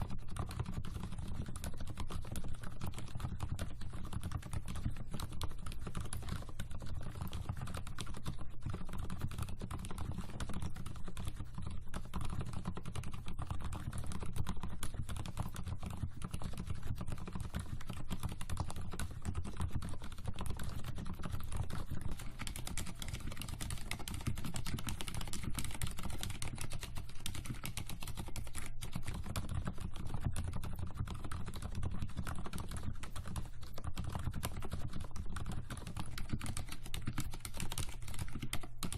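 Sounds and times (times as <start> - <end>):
muted mechanical keyboard typing: 0.0 - 38.9.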